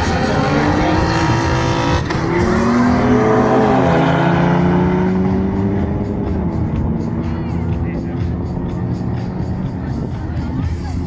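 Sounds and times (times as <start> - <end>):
racing car engines accelerating: 0.0 - 11.0.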